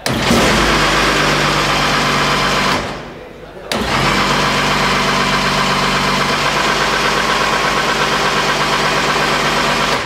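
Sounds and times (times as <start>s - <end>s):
racing car engine idling: 0.0s - 10.0s.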